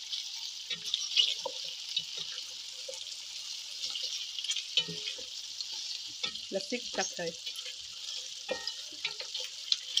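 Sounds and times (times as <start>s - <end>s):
meat and onions sizzling in a pot: 0.0s - 10.0s
wooden spatula scraping a pot: 0.6s - 10.0s.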